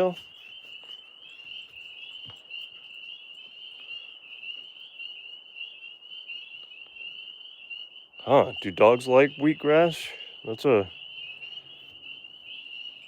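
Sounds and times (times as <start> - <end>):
tree frogs trilling: 0.0 - 13.0.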